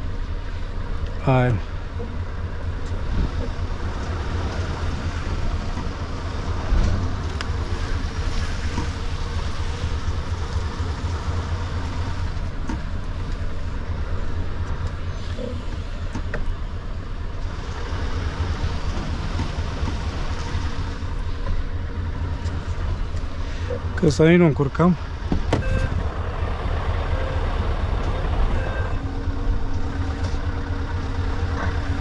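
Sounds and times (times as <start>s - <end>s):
diesel engine running at low revs: 0.0s - 32.0s.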